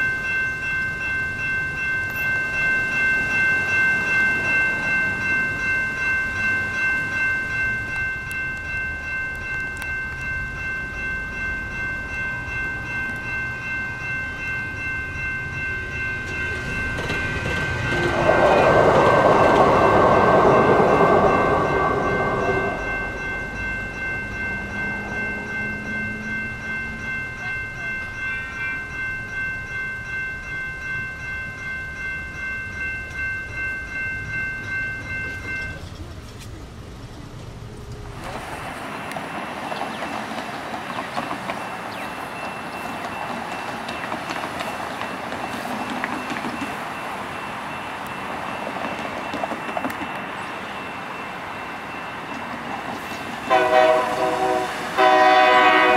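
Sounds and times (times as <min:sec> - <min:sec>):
crossing signal bells ringing: 0:00.0 - 0:55.9
train passing over crossing: 0:00.0 - 0:55.9.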